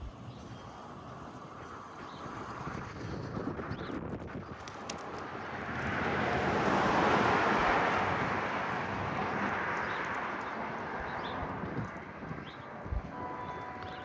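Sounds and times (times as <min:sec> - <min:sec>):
vehicle passing on road: 0:00.6 - 0:14.0.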